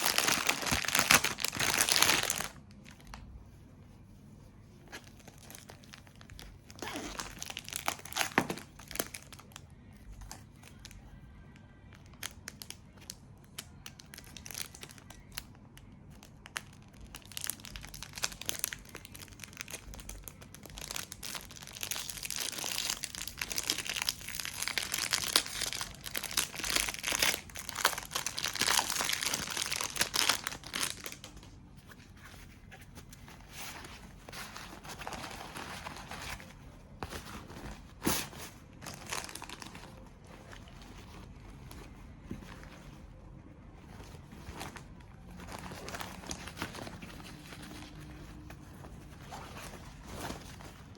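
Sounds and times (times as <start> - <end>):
wrapping crinkling: 0.0 - 3.3, 4.6 - 50.9.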